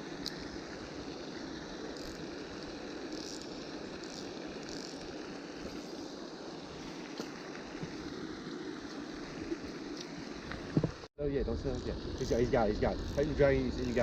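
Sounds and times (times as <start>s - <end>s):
rippling water: 0.0s - 14.0s.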